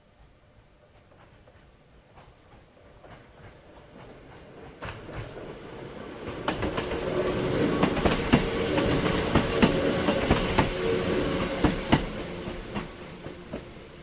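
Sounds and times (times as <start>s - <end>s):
train hum: 0.0s - 14.0s
train wheels clacking over rail joints: 1.0s - 5.5s, 6.3s - 13.8s.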